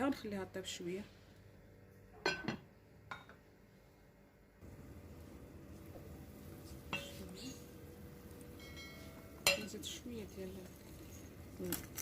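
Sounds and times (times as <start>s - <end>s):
low steady noise: 0.0s - 11.9s.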